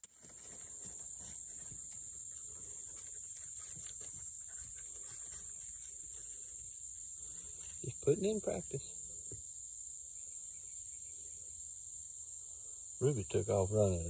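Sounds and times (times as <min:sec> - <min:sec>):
high-pitched insect chorus: 0:00.1 - 0:14.0.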